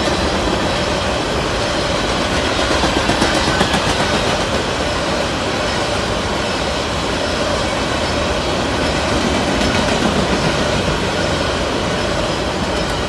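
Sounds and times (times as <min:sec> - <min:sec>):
freight train wheels rumbling: 0:00.0 - 0:13.0
wheels clacking over rail joints: 0:00.0 - 0:13.0.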